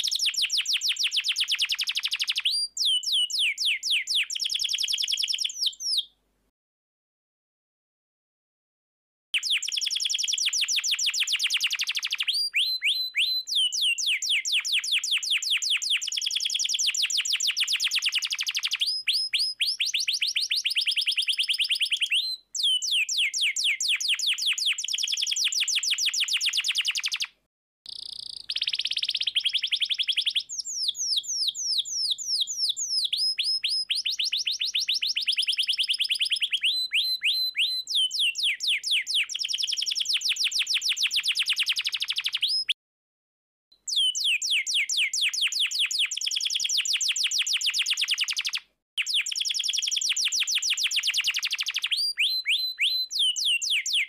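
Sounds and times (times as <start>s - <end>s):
canary singing trills: 0.0s - 6.1s, 9.4s - 27.3s, 27.9s - 42.8s, 43.9s - 54.0s.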